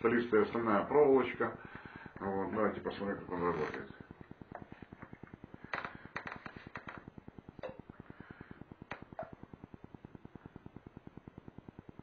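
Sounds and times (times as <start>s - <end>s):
steady fast ticking: 0.0s - 12.0s.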